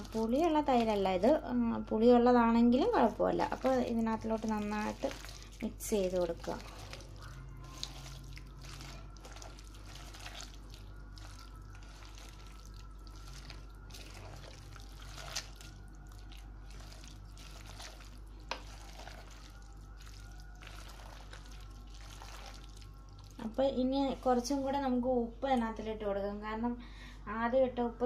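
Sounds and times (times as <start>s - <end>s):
hand kneading wet meat: 0.0s - 1.3s, 2.8s - 24.6s
steady low hum: 0.0s - 28.0s.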